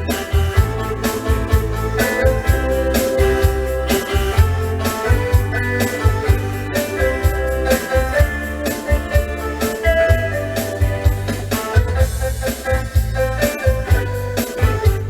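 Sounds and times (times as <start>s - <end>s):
drum machine rhythm: 0.0s - 15.0s
electronic organ playing pop tune: 0.0s - 15.0s.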